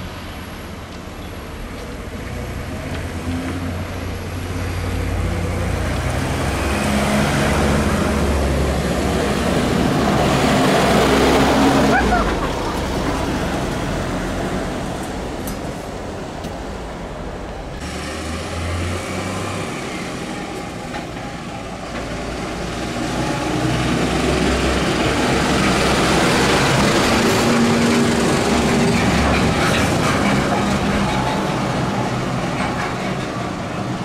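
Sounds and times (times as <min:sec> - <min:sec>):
diesel engines driving past: 0:00.0 - 0:34.0.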